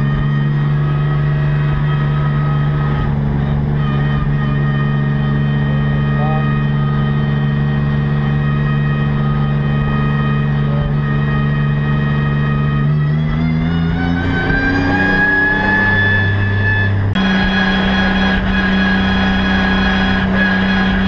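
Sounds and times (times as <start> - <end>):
engine whine rising in pitch: 0.0 - 21.0
race car engine: 0.0 - 21.0.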